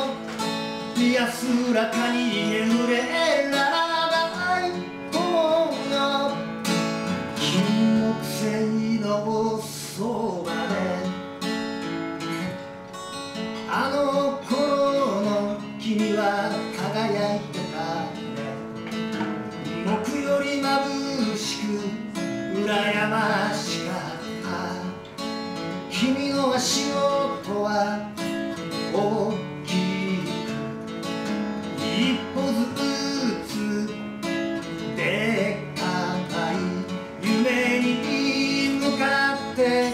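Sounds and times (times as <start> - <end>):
man singing: 0.0 - 11.4, 13.6 - 30.8, 31.6 - 39.9
acoustic guitar strumming: 0.0 - 39.9.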